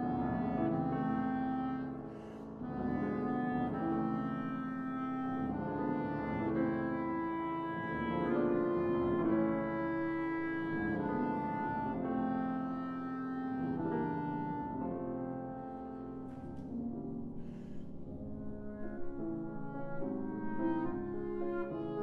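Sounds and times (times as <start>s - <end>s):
clarinet holding long notes: 0.0s - 16.8s, 18.4s - 22.0s
piano: 0.0s - 22.0s.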